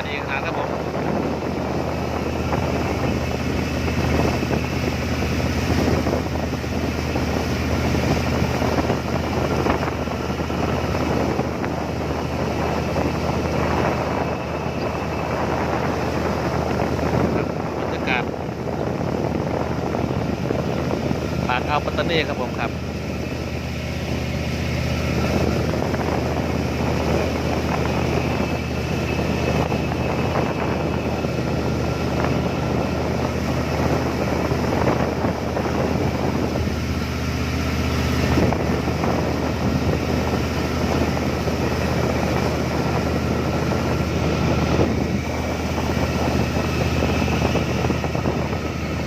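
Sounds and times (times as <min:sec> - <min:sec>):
boat engine droning: 0:00.0 - 0:49.0
wind buffeting microphone: 0:00.0 - 0:49.0.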